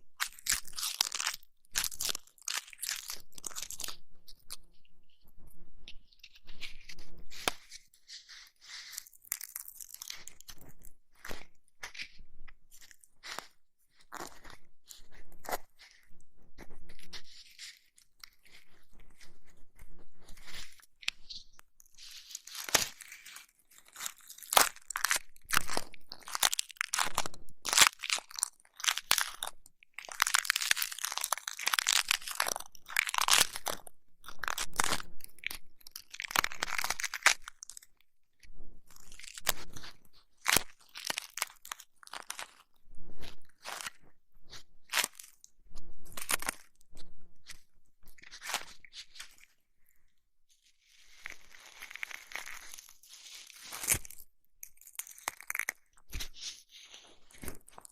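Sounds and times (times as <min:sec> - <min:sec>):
crackling scratching on microphone: 0:00.2 - 0:49.5, 0:50.6 - 0:57.9.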